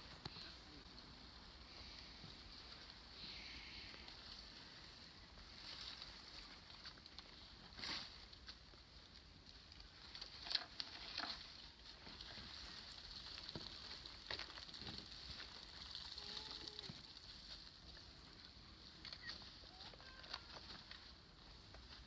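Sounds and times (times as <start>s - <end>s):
dry leaves crackling and rustling: 0.0s - 22.0s.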